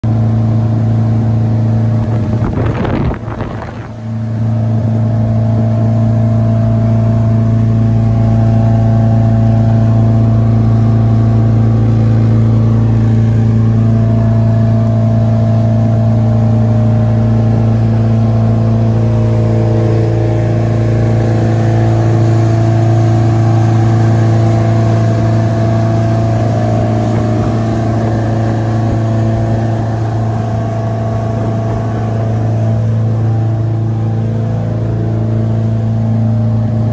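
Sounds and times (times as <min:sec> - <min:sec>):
boat engine low drone: 0:00.0 - 0:36.9.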